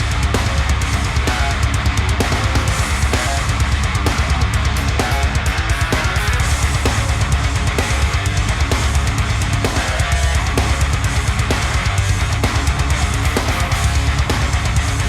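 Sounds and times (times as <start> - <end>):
distorted electric guitar: 0.0 - 15.0
driving drum beat: 0.0 - 15.0.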